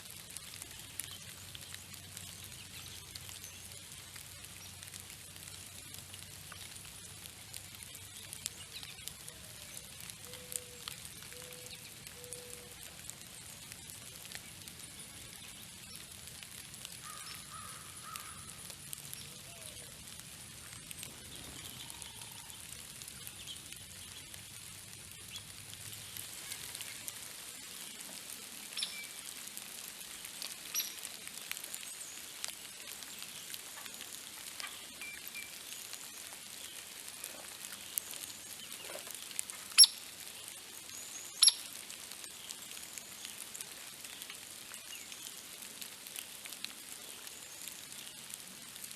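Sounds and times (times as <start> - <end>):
steady outdoor hiss: 0.0 - 48.9.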